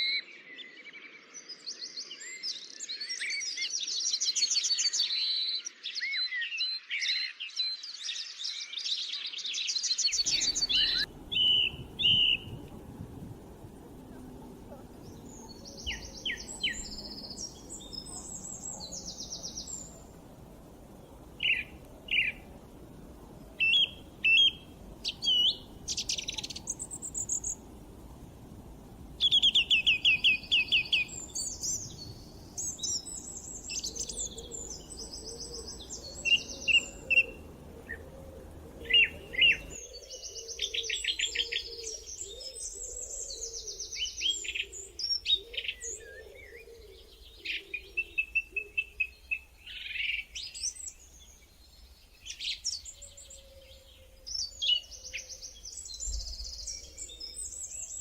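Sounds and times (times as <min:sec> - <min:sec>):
birds chirping and trilling: 0:00.0 - 0:58.0
faint steady background noise: 0:09.8 - 0:58.0.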